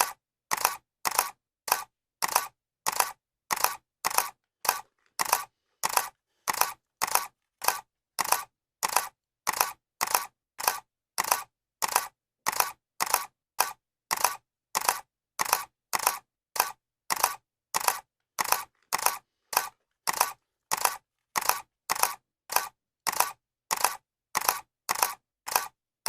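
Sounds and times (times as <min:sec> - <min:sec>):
camera shutter clicking: 0:00.0 - 0:25.7.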